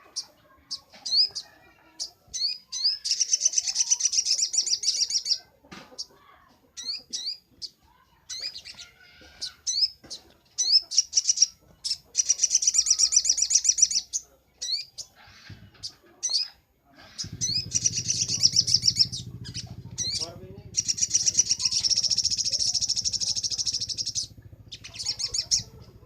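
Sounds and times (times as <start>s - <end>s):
bird singing high rapid chirps: 0.0s - 6.1s, 6.8s - 26.0s.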